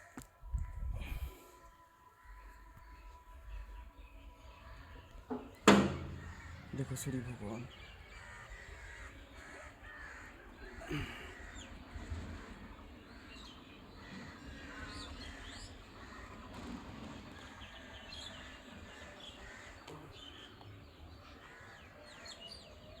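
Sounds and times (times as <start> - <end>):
crows cawing: 0.0 - 0.3, 1.0 - 3.8, 4.6 - 22.8
small birds chirping: 0.0 - 23.0.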